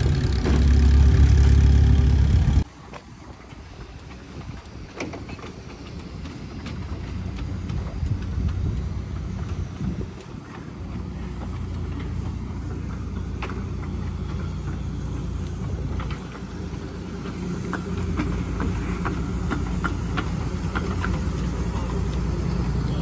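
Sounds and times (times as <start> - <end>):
locomotive low rumble: 0.0 - 23.0
train wheels clicking: 0.0 - 23.0.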